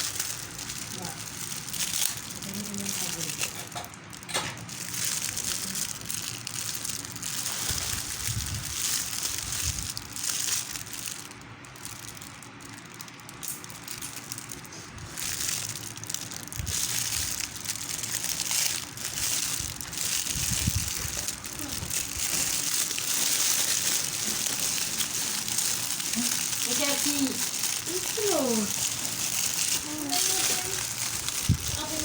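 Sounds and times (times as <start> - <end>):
packaging rustling and crinkling: 0.0 - 32.0.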